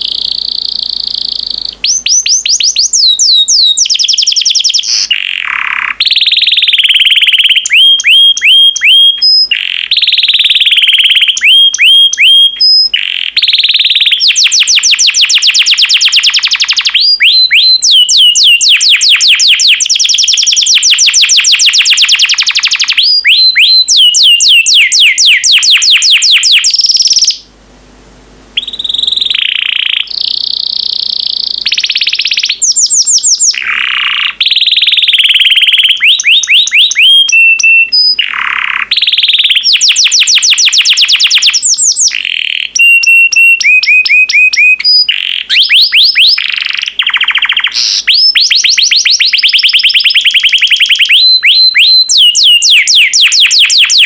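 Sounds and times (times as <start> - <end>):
canary singing trills: 0.0 - 27.5, 28.6 - 54.0.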